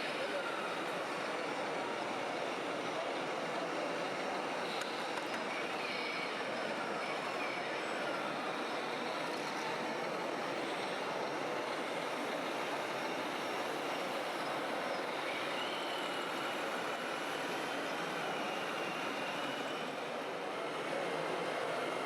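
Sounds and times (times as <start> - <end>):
faint motor whine: 0.0 - 22.0.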